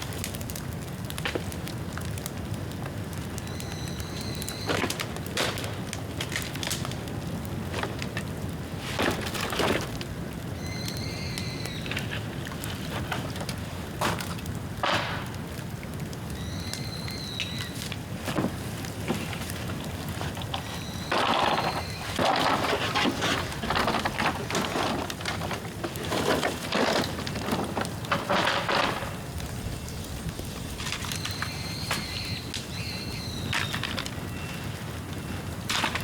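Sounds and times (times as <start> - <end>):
bamboo popping in fire: 0.0 - 36.0
fire crackling: 0.0 - 36.0
fire rumbling: 0.0 - 36.0.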